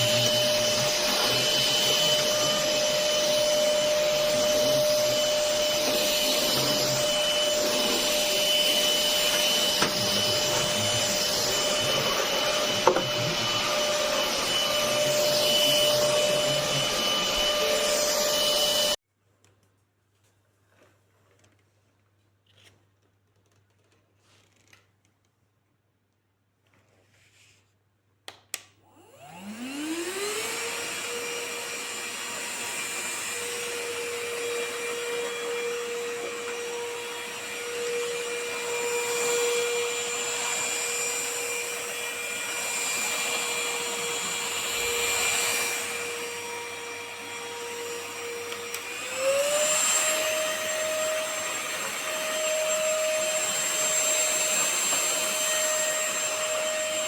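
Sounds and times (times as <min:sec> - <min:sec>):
vacuum motor whining: 0:00.0 - 0:19.0, 0:28.9 - 0:57.0.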